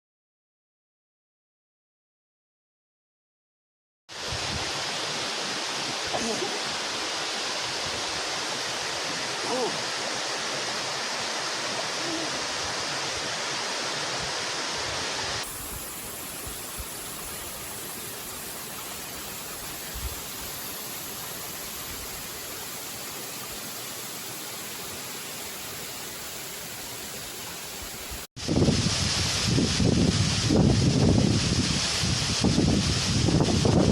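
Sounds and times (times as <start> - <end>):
waterfall rushing: 4.1 - 33.9.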